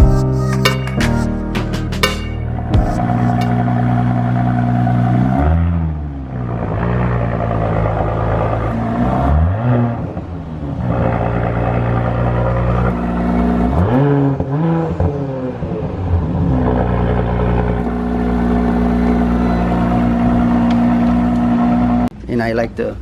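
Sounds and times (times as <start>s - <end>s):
car exhaust idling and revving: 2.5s - 22.1s.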